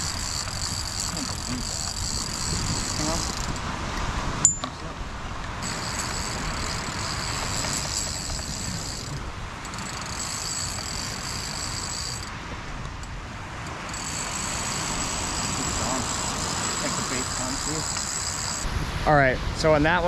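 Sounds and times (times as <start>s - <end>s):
thin high whine: 0.0s - 3.7s, 4.4s - 19.8s
wind: 0.0s - 20.0s.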